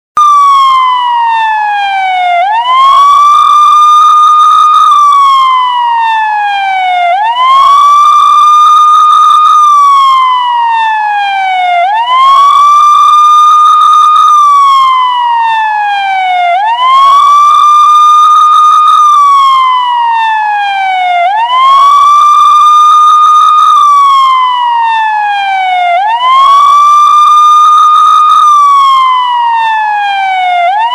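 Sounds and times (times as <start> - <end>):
police siren wailing: 0.2 - 30.9.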